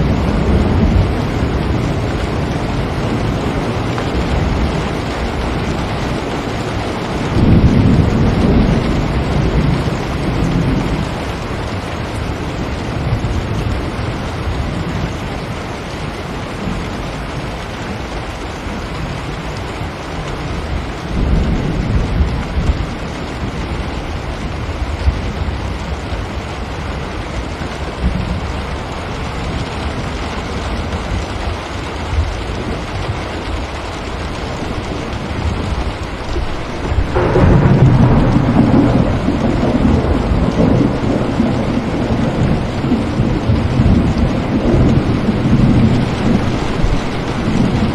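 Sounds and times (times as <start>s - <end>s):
distant thunder rumble: 0.0s - 47.9s
steady rain: 0.0s - 47.9s.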